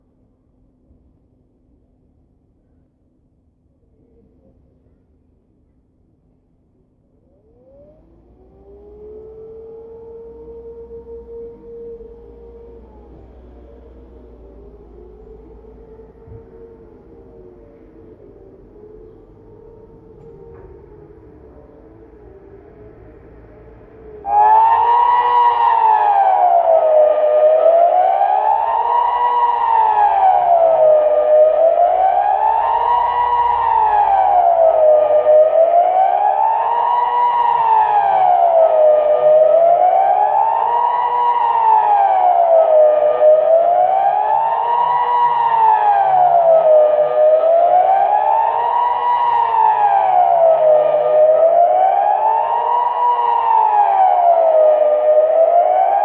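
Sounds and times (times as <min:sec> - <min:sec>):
siren wailing: 0:07.2 - 0:56.0.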